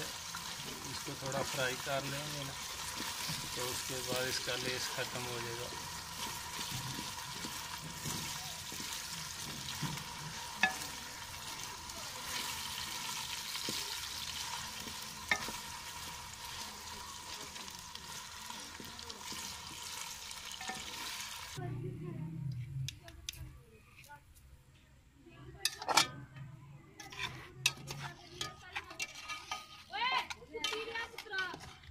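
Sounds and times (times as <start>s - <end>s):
food sizzling in oil: 0.0s - 21.6s, 27.0s - 31.7s
wooden spatula scraping pot: 0.0s - 21.6s, 27.0s - 31.9s.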